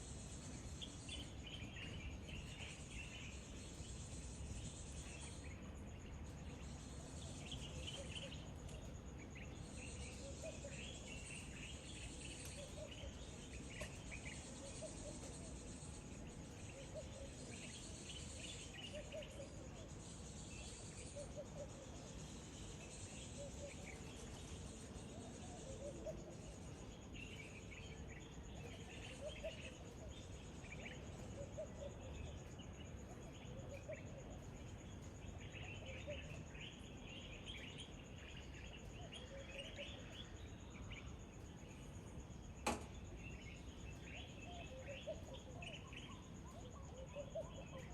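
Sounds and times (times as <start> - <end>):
birds chirping: 0.0 - 47.9
high insect drone: 0.0 - 47.9.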